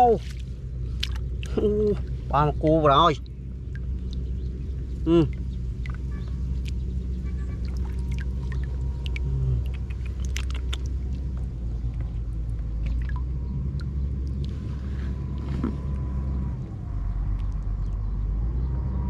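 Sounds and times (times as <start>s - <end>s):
water splashing: 0.0s - 15.9s
small engine rumbling: 0.0s - 19.0s.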